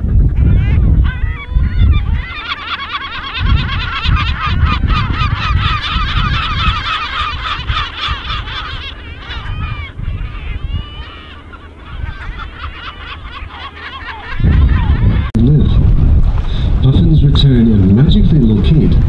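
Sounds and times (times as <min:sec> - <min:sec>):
gulls calling: 0:00.0 - 0:15.9
wind rumbling on microphone: 0:00.0 - 0:19.0.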